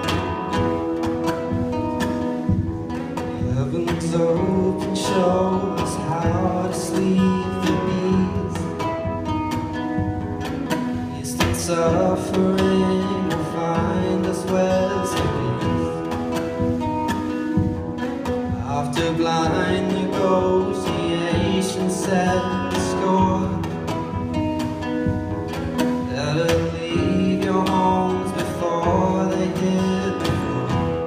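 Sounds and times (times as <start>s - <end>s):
acoustic guitar picked and strummed: 0.0s - 31.0s.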